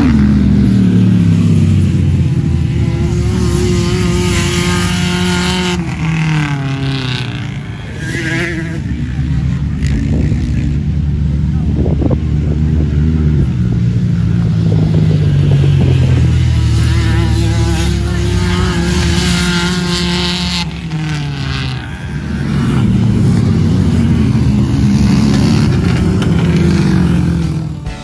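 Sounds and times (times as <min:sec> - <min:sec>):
vehicle engine revving under load: 0:00.0 - 0:28.0.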